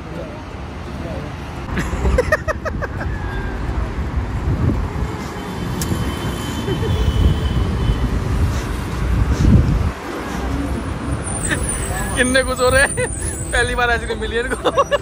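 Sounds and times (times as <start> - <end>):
passing vehicles rumble: 0.0 - 15.0.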